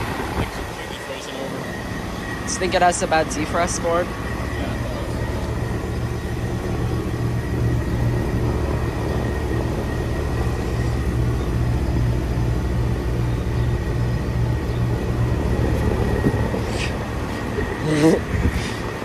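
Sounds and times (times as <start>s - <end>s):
faint high whine: 0.0s - 18.2s
compressor hum: 0.0s - 19.0s
condenser fan noise: 0.0s - 19.0s.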